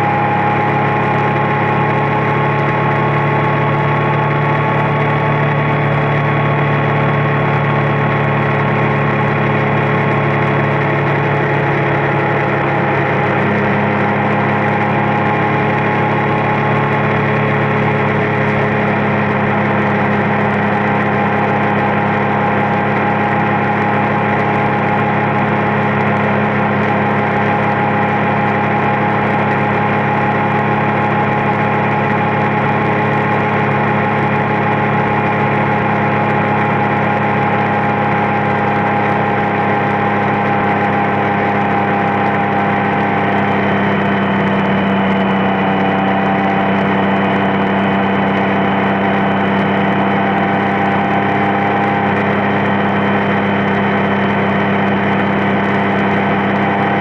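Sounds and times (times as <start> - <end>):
motorcycle engine cruising: 0.0 - 57.0
road and wind noise: 0.0 - 57.0.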